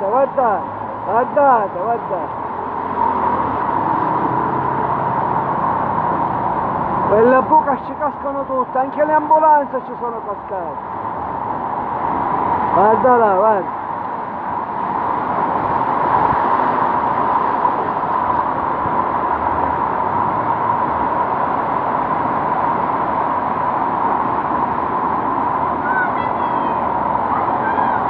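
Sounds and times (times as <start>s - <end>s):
floodwater rushing: 0.0s - 28.0s
vehicles driving through water: 0.0s - 28.0s.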